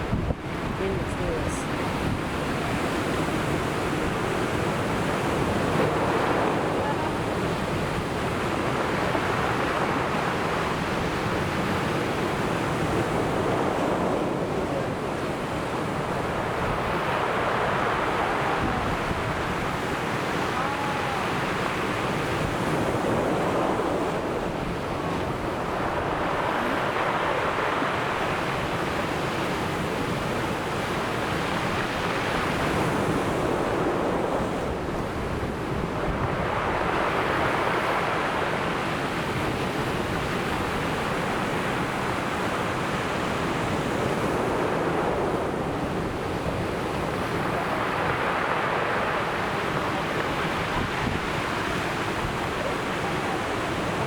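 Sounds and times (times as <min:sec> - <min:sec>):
sea surf breaking on shore: 0:00.0 - 0:54.0.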